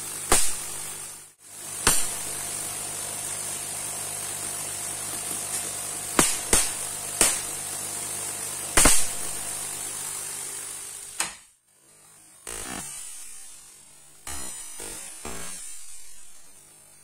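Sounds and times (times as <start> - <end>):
corona discharge hissing: 0.0 - 11.4, 12.4 - 17.0
mains hum: 0.0 - 17.0
sharp electrical cracks: 0.0 - 17.0.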